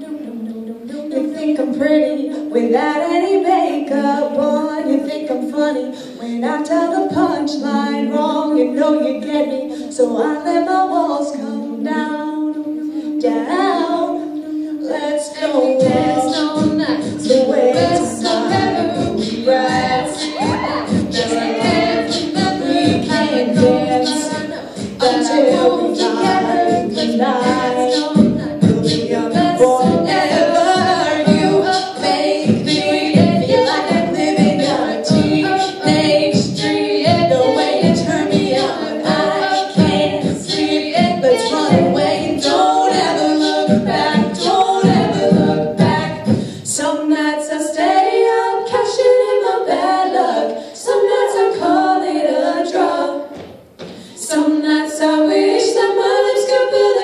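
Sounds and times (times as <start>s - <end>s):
vocal group singing in harmony: 0.0s - 57.0s.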